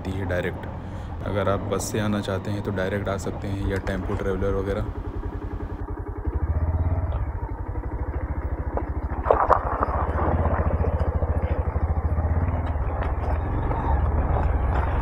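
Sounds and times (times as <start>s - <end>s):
motorcycle engine running: 0.0s - 15.0s
clatter: 1.7s - 15.0s.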